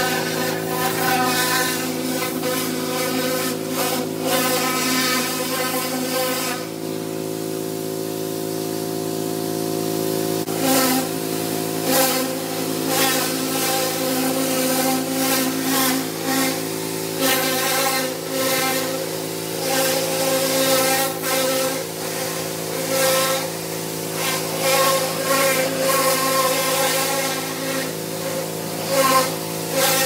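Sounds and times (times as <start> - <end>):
water jet hissing on siding: 0.0 - 9.0, 10.2 - 30.0
pressure washer humming: 0.0 - 30.0.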